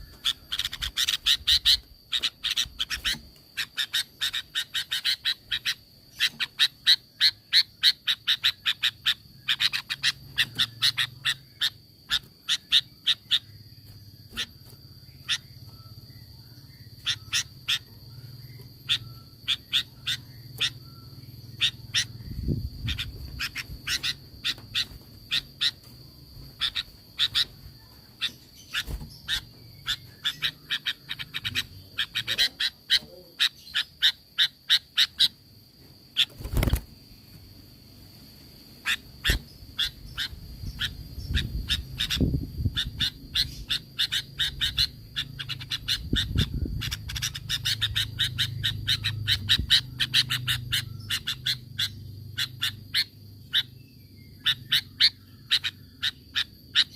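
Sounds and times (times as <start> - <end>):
bird chattering calls: 0.0 - 35.5, 36.1 - 37.0, 38.7 - 56.9.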